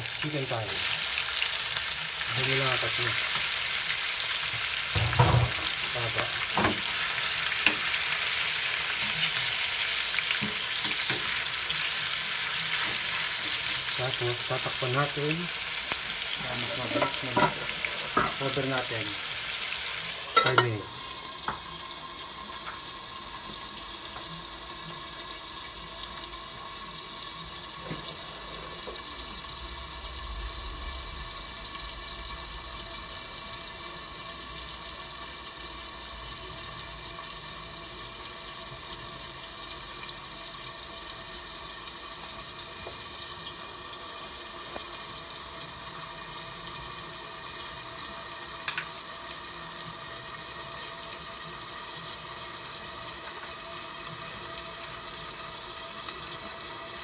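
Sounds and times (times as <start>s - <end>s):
chicken sizzling in covered pan: 0.0s - 57.0s.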